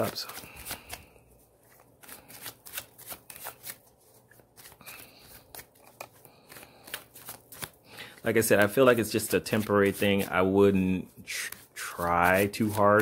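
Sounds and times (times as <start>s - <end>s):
cards being shuffled: 0.0s - 13.0s.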